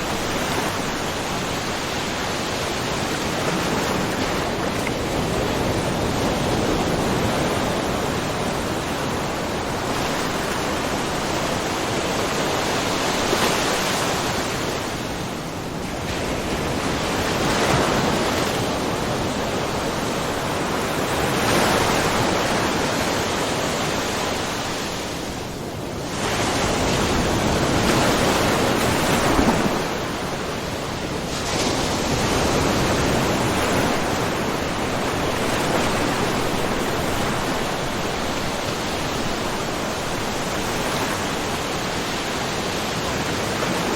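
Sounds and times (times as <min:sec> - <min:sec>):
small waves splashing: 0:00.0 - 0:43.9.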